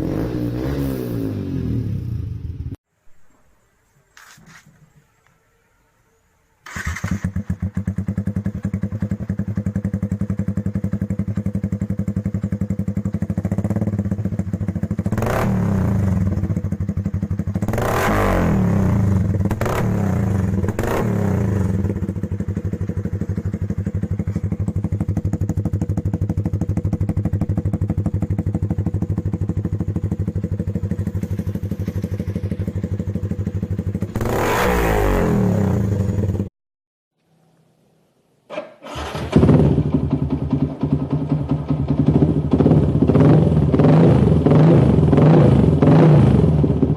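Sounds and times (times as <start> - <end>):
motorcycle engine idling and revving: 0.0 - 2.9, 6.6 - 36.5, 38.9 - 46.9.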